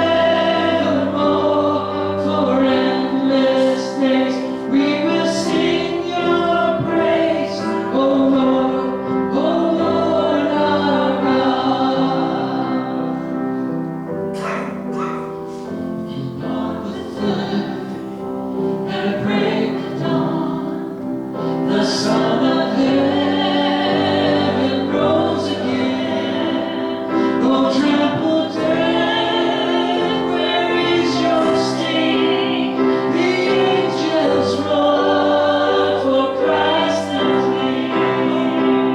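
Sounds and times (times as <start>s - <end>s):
accompanying music: 0.0s - 38.9s
congregation singing a hymn: 0.0s - 38.9s.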